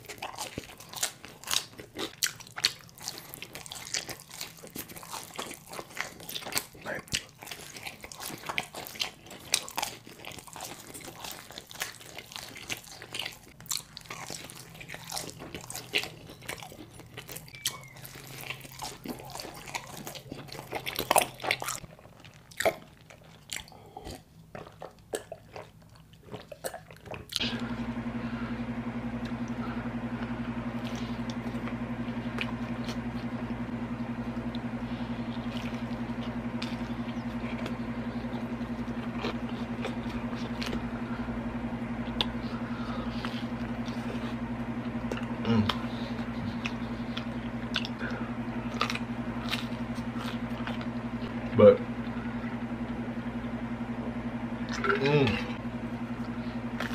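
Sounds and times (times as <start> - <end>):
chewing pizza crust: 0.0 - 56.9
steady low hum: 0.0 - 56.9.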